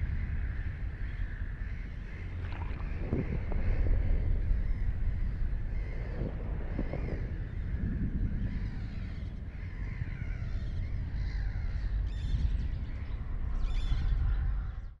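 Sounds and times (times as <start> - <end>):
harsh bird cawing: 0.0 - 14.8
low rushing background: 0.0 - 14.8.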